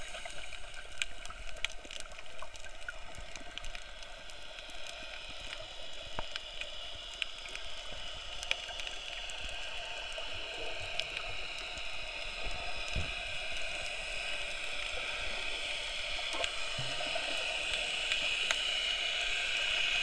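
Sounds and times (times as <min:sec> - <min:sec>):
faint clicks and crackles: 0:00.0 - 0:20.0
muffled underwater hiss: 0:00.0 - 0:20.0.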